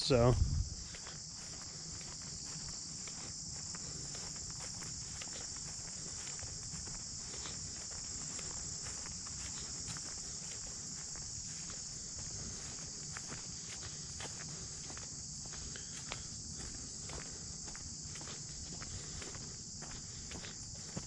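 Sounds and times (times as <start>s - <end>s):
crickets trilling: 0.0s - 21.0s
footsteps on trail: 0.0s - 21.0s.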